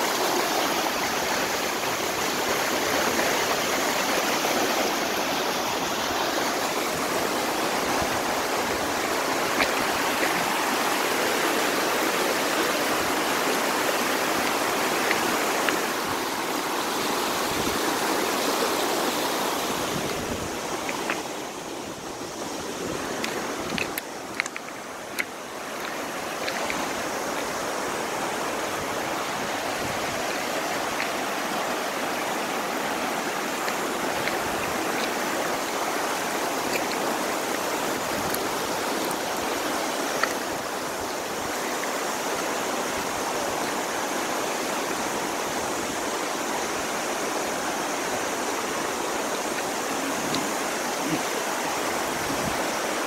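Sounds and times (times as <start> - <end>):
river rushing over rocks: 0.0 - 53.0.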